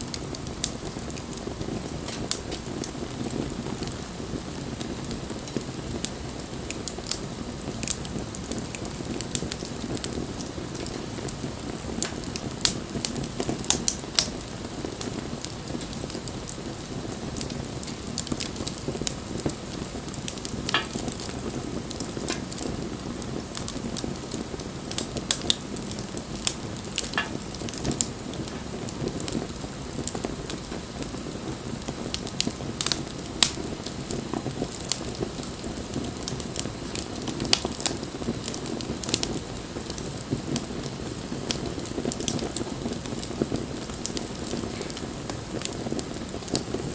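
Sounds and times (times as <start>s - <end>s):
bonfire crackling and popping: 0.0s - 46.9s.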